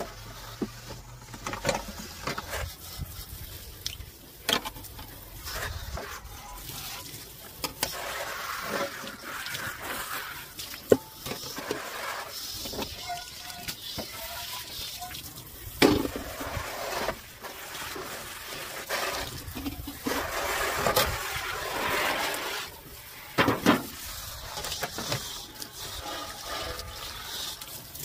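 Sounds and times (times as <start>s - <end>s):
hose water spraying on metal: 0.0s - 28.0s.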